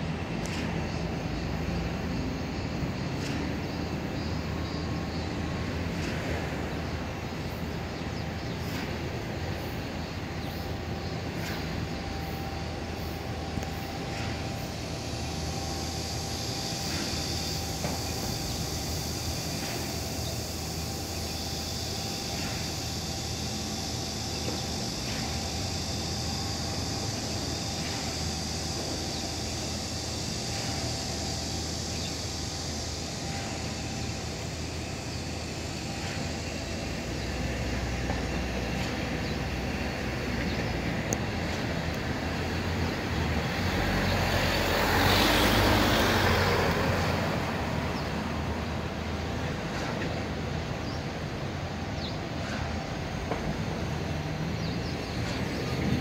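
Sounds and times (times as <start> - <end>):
traffic hum and hiss: 0.0 - 56.0.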